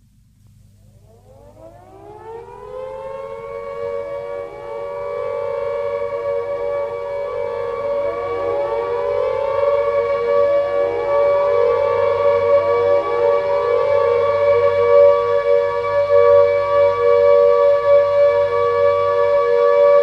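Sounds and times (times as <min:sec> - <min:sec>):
air raid siren wailing: 0:00.6 - 0:20.0.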